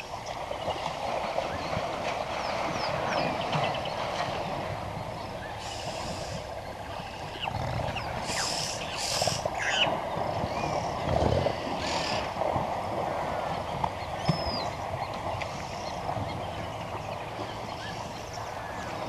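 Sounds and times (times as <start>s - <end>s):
birds chirping: 0.0s - 19.0s
elephant low rumbles: 0.0s - 19.0s
water splashing: 0.0s - 19.0s.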